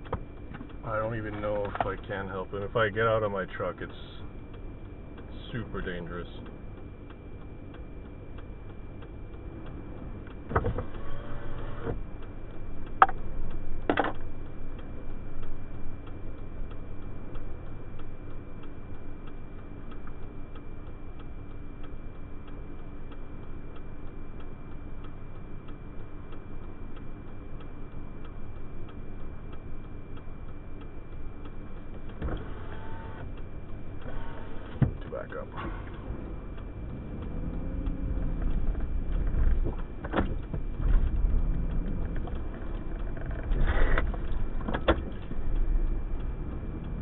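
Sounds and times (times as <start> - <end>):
low steady rumble: 0.0 - 47.0
turn signal ticking: 0.0 - 47.0.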